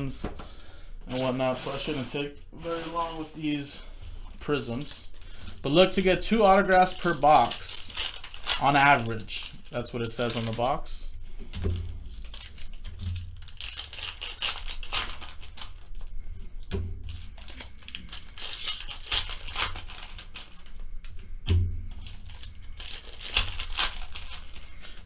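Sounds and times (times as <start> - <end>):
foil wrappers crinkling and tearing: 1.1 - 25.0.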